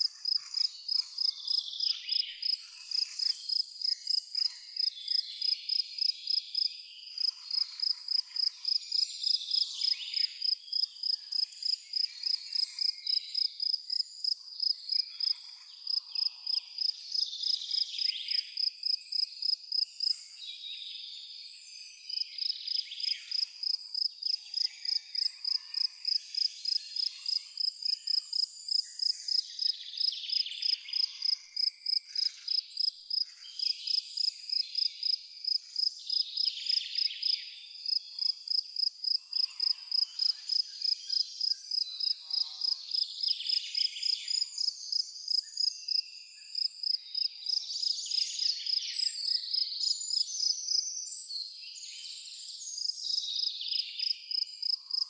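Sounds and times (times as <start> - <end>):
cricket chirping: 0.0 - 20.4, 22.1 - 51.3, 52.2 - 55.0
faint background insects: 0.0 - 55.0.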